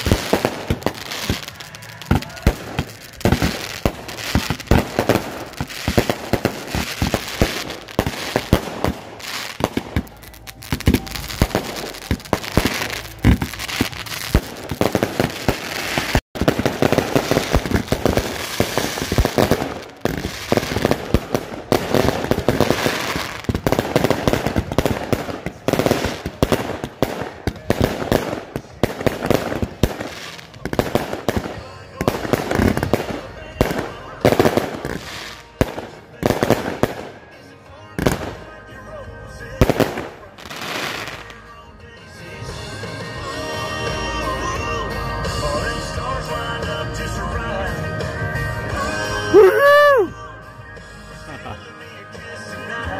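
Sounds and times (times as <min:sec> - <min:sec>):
fireworks bangs and crackles: 0:00.0 - 0:38.7, 0:39.4 - 0:41.5, 0:47.7 - 0:50.1.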